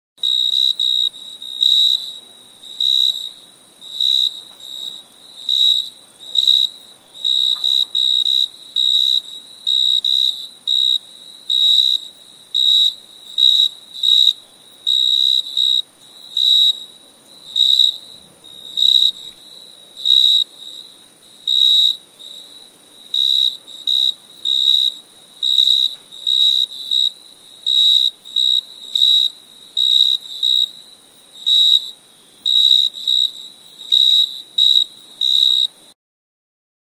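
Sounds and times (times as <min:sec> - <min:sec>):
cricket chirping: 0:00.2 - 0:36.0
faint steady high hiss: 0:00.2 - 0:36.0.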